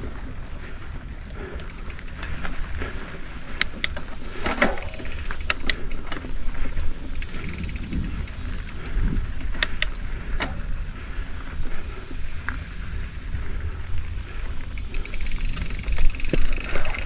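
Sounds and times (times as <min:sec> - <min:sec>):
bike clicks and rattles: 0:00.0 - 0:17.0
wind and tyres rumbling: 0:00.0 - 0:17.0.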